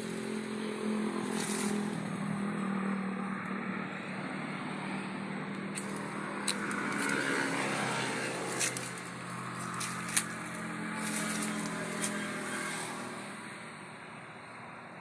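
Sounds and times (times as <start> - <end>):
motor engine running: 0.0 - 13.9.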